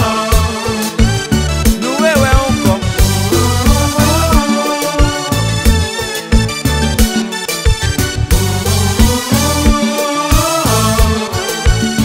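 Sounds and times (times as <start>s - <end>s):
dance music: 0.0s - 12.0s.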